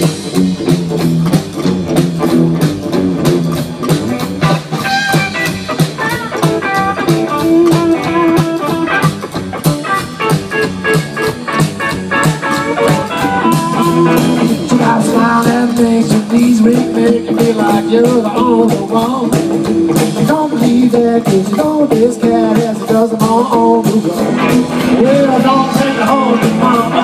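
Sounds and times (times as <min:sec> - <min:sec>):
bass guitar: 0:00.0 - 0:27.0
electric guitar lead: 0:00.0 - 0:27.0
steady drum beat: 0:00.0 - 0:27.0.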